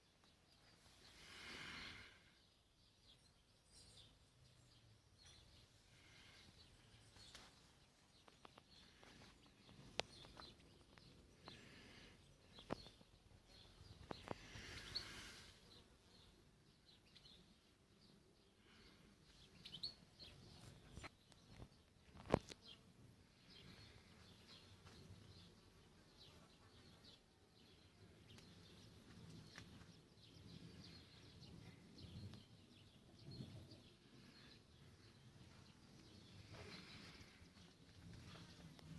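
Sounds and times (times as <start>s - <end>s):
distant birds chirping: 0.0s - 38.9s.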